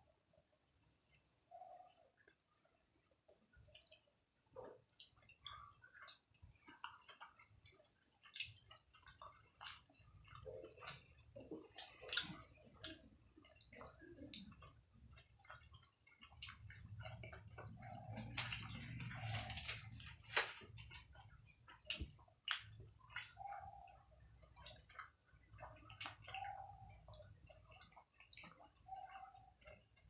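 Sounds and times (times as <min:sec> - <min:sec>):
wet chewing and mouth smacks: 0:02.2 - 0:30.0.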